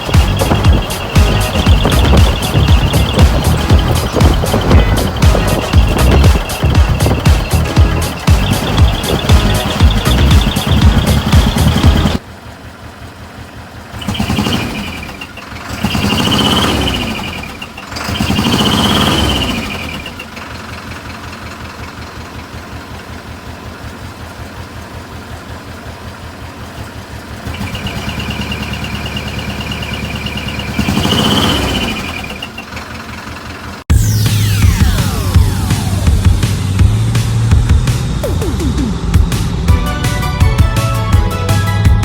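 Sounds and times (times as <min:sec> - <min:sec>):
diesel engine idling and revving: 0:00.0 - 0:42.0.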